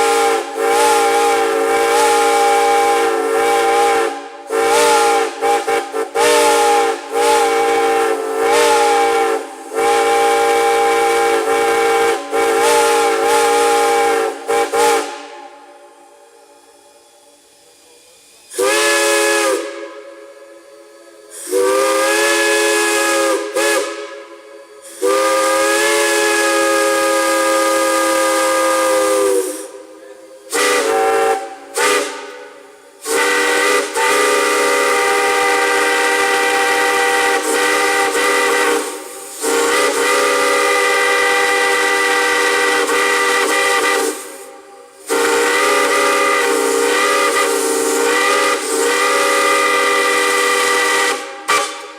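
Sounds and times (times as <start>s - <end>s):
steam hissing: 0.0s - 51.9s
steam whistle blasts: 0.0s - 51.9s.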